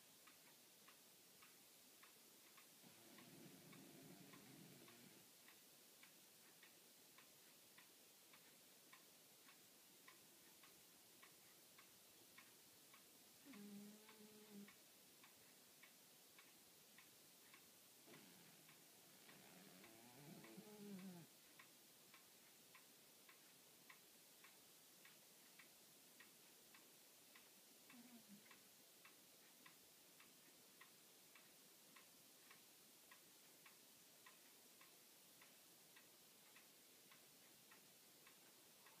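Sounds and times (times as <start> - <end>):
faint regular ticking: 0.0 - 39.0.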